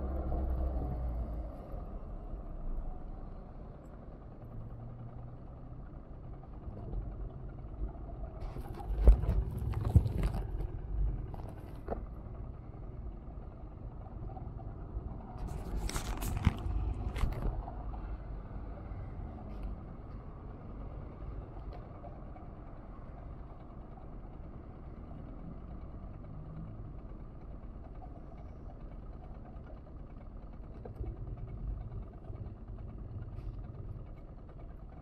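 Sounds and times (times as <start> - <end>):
passing cars and lorry rumble: 0.0 - 35.0.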